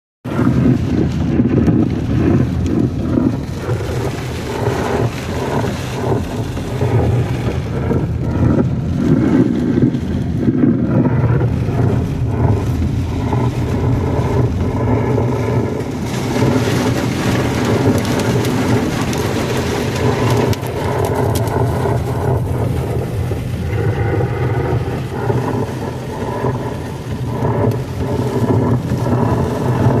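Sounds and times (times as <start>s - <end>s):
wind buffeting microphone: 0.2s - 30.0s
hail and rain clattering: 0.3s - 30.0s.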